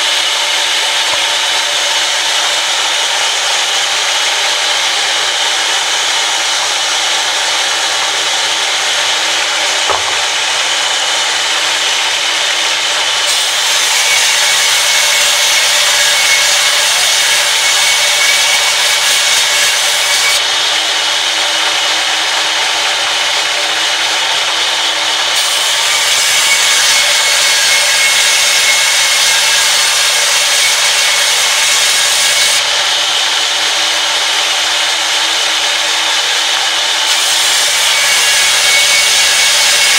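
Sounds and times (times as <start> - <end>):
band saw running: 0.0 - 39.9
saw ripping wooden board: 0.0 - 39.9.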